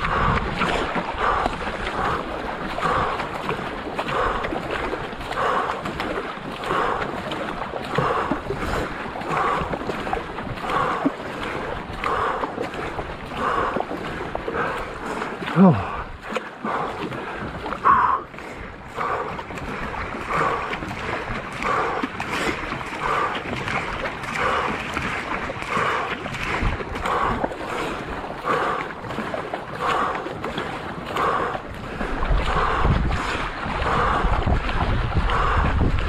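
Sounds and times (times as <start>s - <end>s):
wind rumble on microphone: 0.0s - 17.8s, 18.5s - 28.3s, 30.0s - 36.0s
canoe paddle strokes: 0.0s - 36.0s
water washing along hull: 0.0s - 36.0s.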